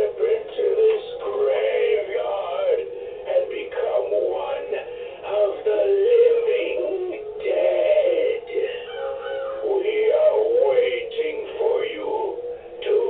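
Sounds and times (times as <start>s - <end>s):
wavering moaning voice: 0.0s - 13.0s
eerie music: 1.1s - 13.0s.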